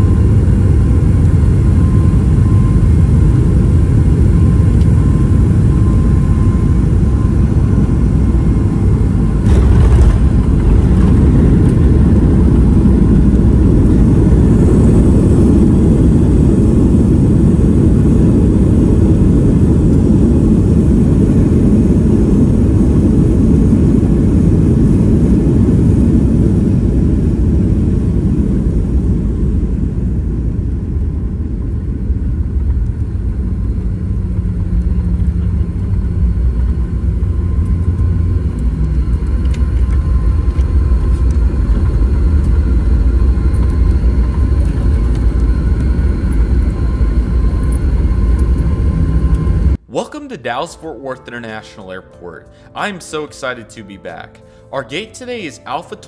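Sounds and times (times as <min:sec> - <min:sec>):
jet engines and wheels rumbling: 0:00.0 - 0:50.0
low steady cabin hum: 0:00.0 - 0:56.0.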